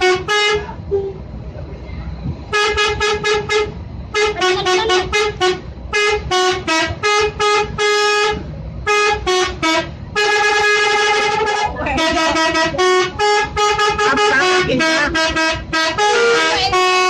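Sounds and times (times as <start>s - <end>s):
multi-tone bus horn tune: 0.0s - 1.2s, 2.4s - 17.0s.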